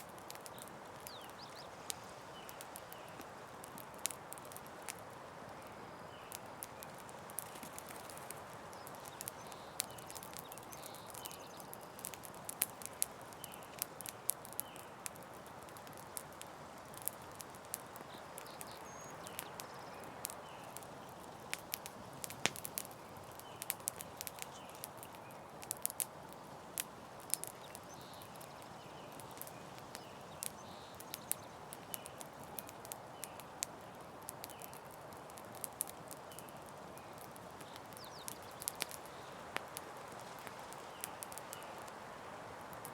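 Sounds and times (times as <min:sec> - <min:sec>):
campfire crackling: 0:00.0 - 0:42.9
fire popping and snapping: 0:00.0 - 0:42.9.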